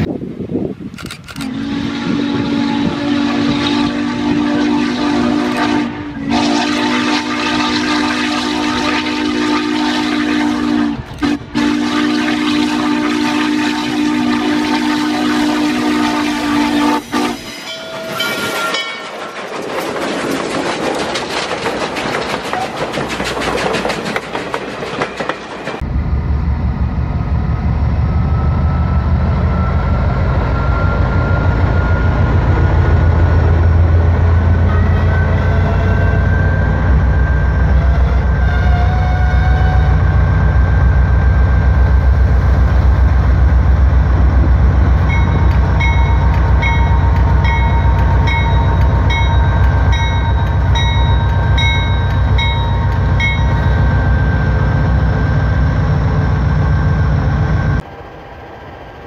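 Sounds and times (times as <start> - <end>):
diesel locomotive engine rumble: 0.0 - 59.0
steam locomotive passing: 0.0 - 59.0.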